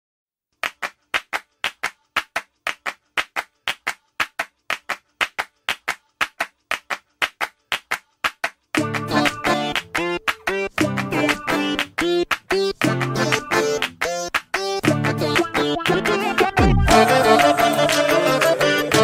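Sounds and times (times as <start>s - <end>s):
rhythmic clapping: 0.6s - 19.0s.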